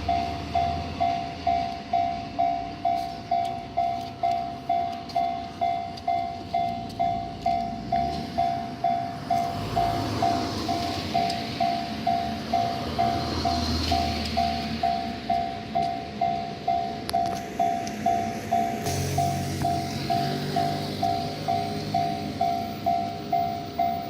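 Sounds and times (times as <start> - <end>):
level crossing alarm bell: 0.0 - 24.0
train rumble: 0.0 - 24.0.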